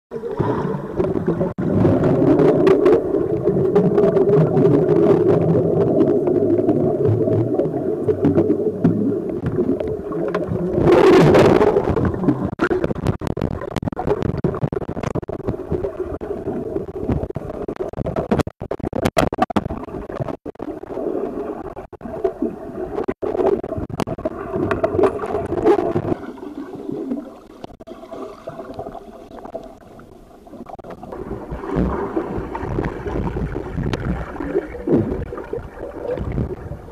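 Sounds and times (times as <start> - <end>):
bubbling splash: 0.1 - 29.9, 30.6 - 36.9
air bubbles: 0.1 - 36.9
underwater river water rushing: 0.1 - 36.9.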